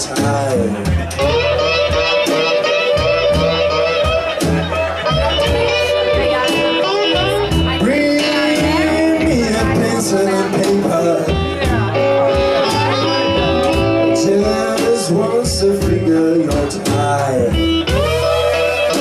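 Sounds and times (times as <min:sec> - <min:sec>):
bass guitar: 0:00.0 - 0:19.0
drum beat: 0:00.0 - 0:19.0
electric guitar: 0:00.0 - 0:19.0
harmonica: 0:01.2 - 0:19.0.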